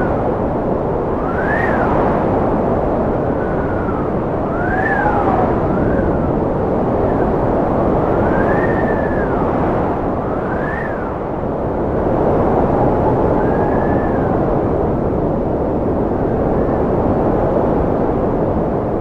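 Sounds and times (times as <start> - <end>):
strong wind whistling: 0.0 - 19.0.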